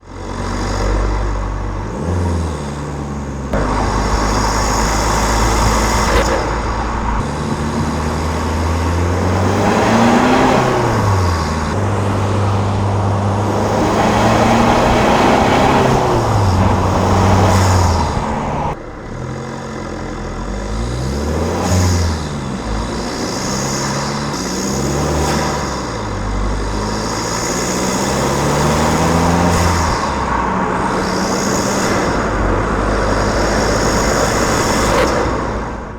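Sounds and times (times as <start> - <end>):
turbodiesel engine revving: 0.0 - 35.9.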